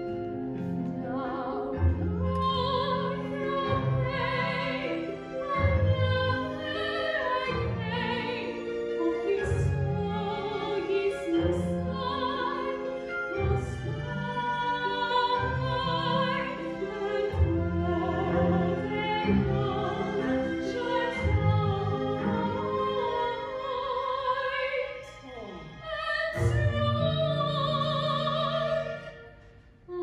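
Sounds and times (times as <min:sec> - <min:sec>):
woman singing operatically: 0:01.0 - 0:12.9, 0:13.5 - 0:25.0, 0:25.8 - 0:29.2.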